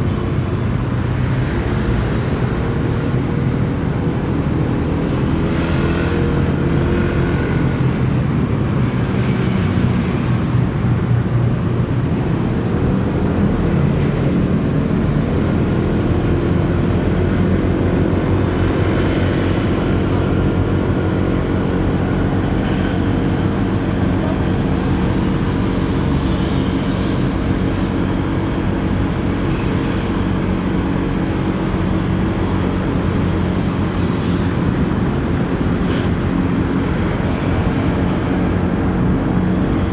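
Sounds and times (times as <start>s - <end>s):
road and traffic noise: 0.0s - 39.9s.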